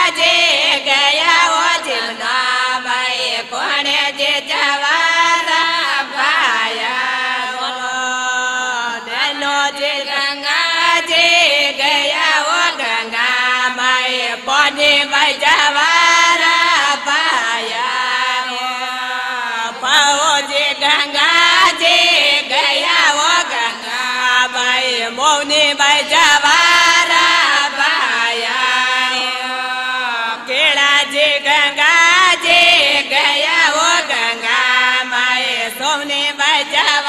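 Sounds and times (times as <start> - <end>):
women singing in unison: 0.0 - 37.0.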